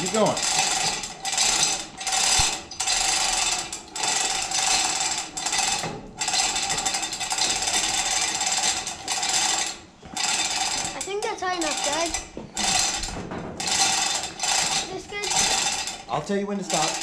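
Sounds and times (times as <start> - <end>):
chain rattling through hoist: 0.0 - 17.0
hoist mechanism clattering: 0.0 - 17.0.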